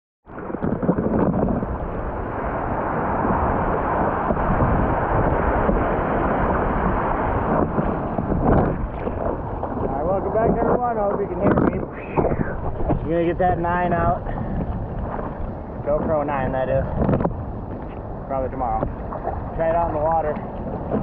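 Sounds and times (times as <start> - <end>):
water rushing around board: 0.3 - 21.0
wind buffeting microphone: 0.3 - 21.0.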